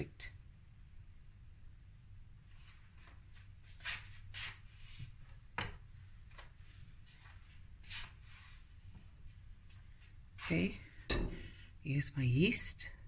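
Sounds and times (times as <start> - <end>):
low steady hum: 0.0 - 3.8, 4.7 - 13.0.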